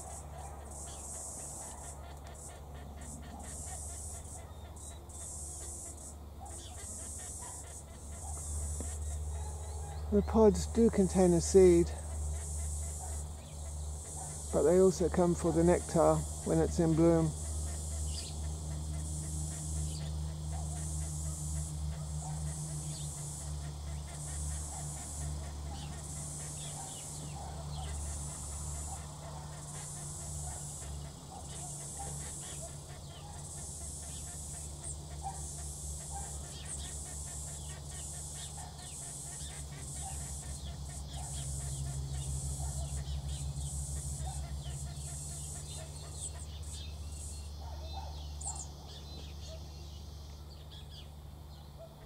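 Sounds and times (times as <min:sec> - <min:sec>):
birds chirping: 0:00.0 - 0:51.9
cicada chorus pulsing: 0:00.0 - 0:52.0
steady low hum: 0:00.0 - 0:52.0.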